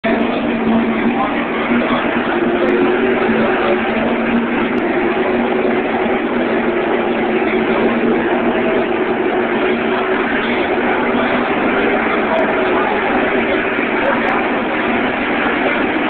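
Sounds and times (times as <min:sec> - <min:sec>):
race car engines at full throttle: 0:00.0 - 0:16.0.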